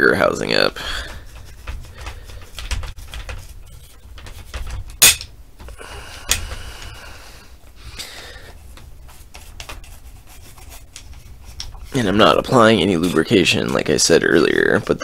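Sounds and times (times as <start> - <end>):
brush rubbing: 0.2 - 5.0, 6.5 - 15.0.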